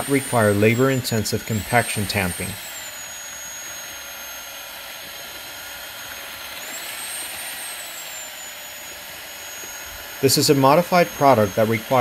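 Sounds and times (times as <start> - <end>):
electric drill mixing in bucket: 0.0 - 12.0.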